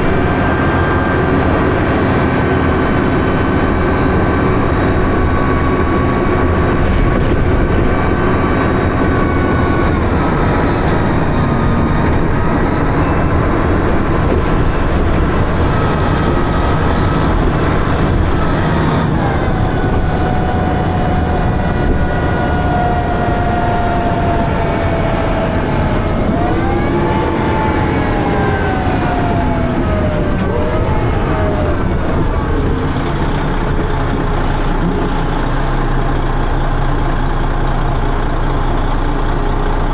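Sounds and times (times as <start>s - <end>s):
bus engine and gearbox whine: 0.0s - 39.9s.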